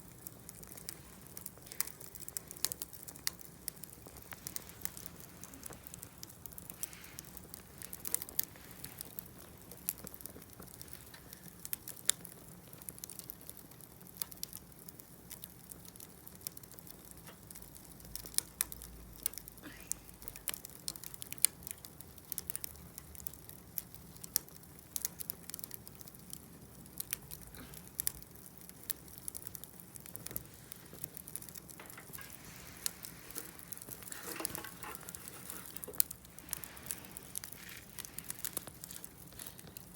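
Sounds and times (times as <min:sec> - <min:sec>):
burning wood popping: 0:00.0 - 0:39.9
campfire crackling: 0:00.0 - 0:39.9.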